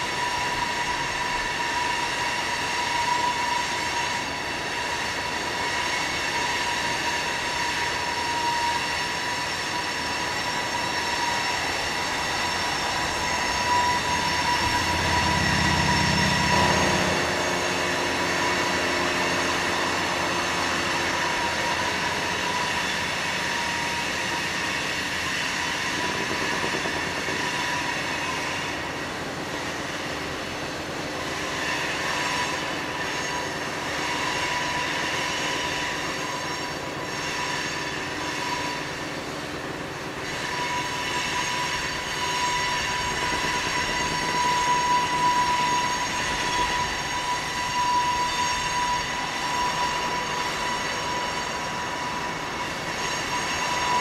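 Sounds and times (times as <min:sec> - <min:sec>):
rumble of rolling train: 0:00.0 - 0:54.0
train wheels squealing on rails: 0:00.0 - 0:54.0.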